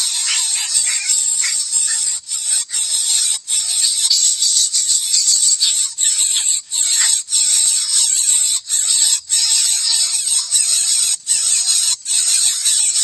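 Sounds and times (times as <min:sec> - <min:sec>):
insect chorus buzzing: 0:00.0 - 0:13.0.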